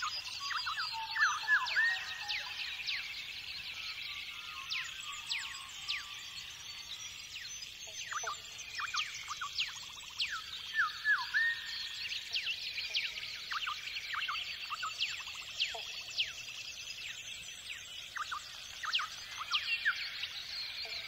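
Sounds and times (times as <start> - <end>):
birds chirping and whistling: 0.0 - 21.0.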